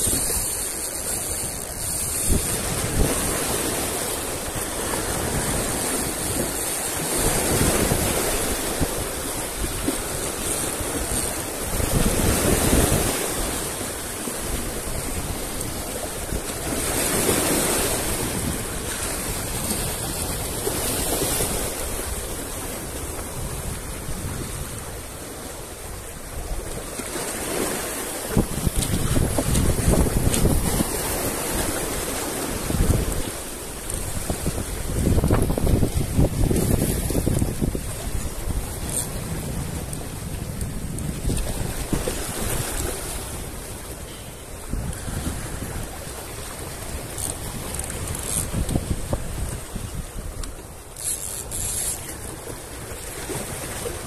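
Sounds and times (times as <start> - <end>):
sea waves washing over rocks: 0.0 - 54.0
wind buffeting microphone: 0.0 - 54.0.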